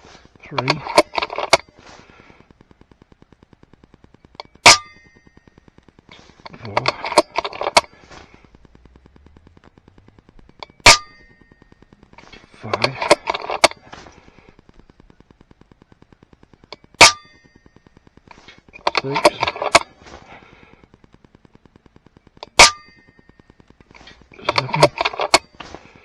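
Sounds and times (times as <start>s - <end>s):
mechanical clicking: 0.0s - 26.0s.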